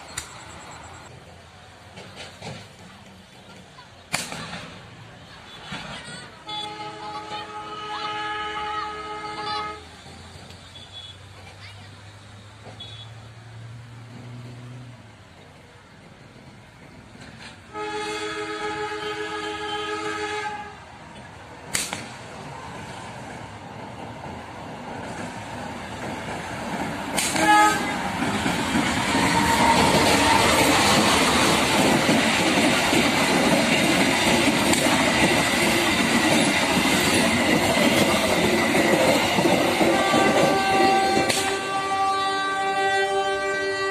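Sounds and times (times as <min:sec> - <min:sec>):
outdoor background noise: 0:00.0 - 0:43.9
train wheels rumbling on rails: 0:00.0 - 0:43.9.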